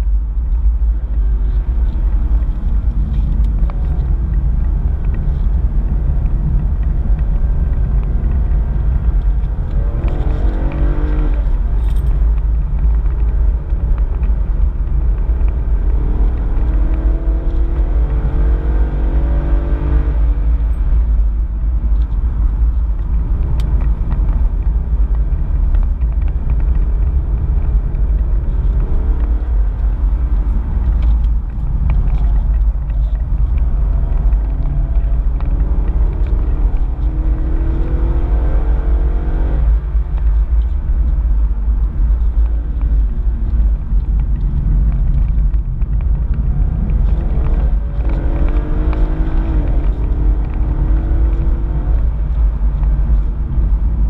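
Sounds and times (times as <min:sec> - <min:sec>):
road rumble: 0:00.0 - 0:54.0
car engine revving: 0:00.6 - 0:24.6, 0:25.3 - 0:54.0.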